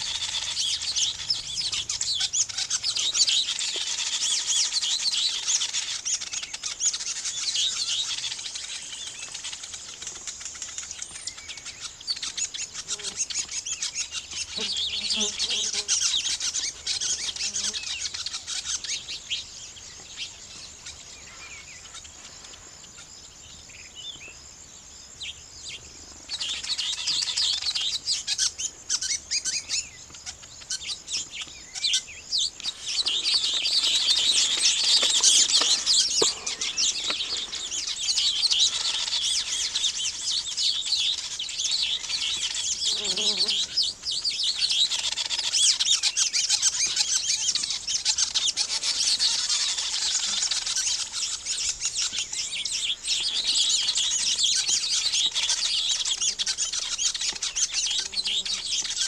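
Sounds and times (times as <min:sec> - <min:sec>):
birds chirping and trilling: 0:00.0 - 0:59.0.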